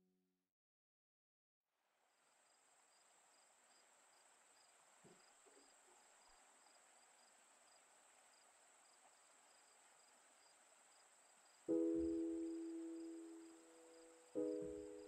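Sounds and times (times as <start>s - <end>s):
faint high-pitched hiss and whine: 1.8s - 15.0s.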